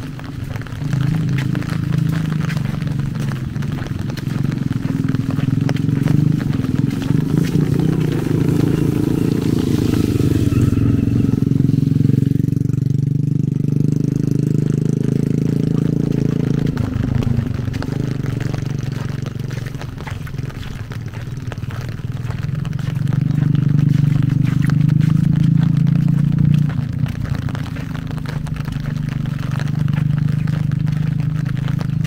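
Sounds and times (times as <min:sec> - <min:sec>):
close raindrops ticking: 0:00.0 - 0:32.0
steady rain falling: 0:00.0 - 0:32.0.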